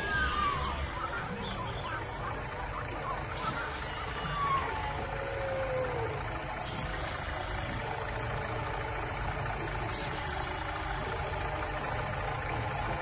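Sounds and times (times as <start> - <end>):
low rumbling drone: 0.0 - 13.0.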